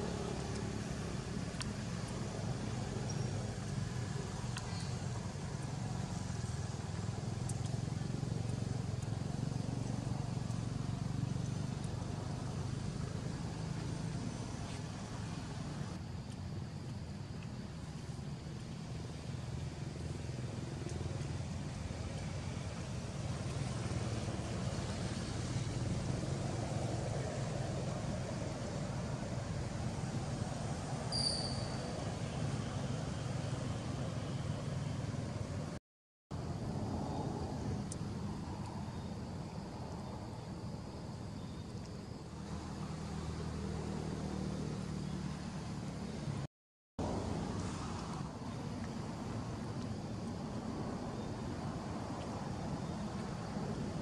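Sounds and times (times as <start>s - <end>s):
constant background noise: 0.0s - 54.0s
low engine hum: 0.0s - 54.0s.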